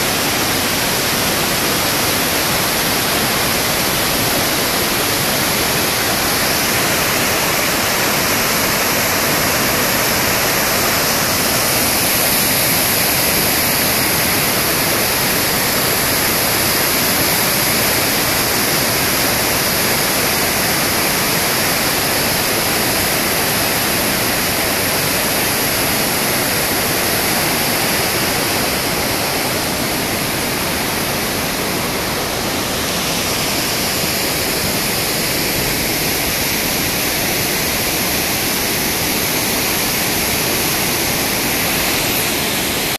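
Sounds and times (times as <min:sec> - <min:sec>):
river rushing over rapids: 0:00.0 - 0:42.9.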